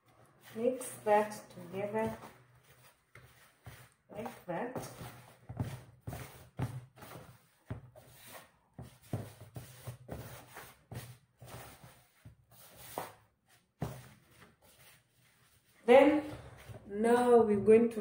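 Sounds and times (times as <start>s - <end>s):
hand rubbing flour in plastic basin: 0.1s - 16.8s.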